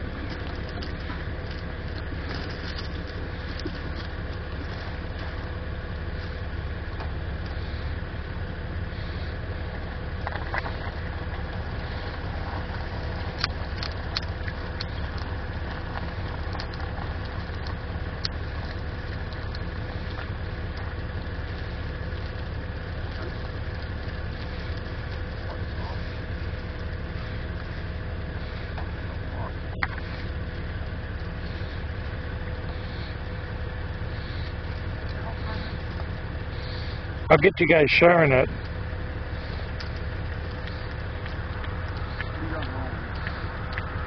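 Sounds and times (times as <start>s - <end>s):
burning charge crackling and popping: 0.0s - 44.0s
steady low rumble with hum: 0.0s - 44.0s.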